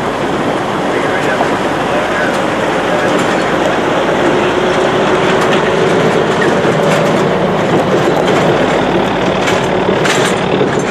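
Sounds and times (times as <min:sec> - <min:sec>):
truck rolling over gravel: 0:00.0 - 0:10.9.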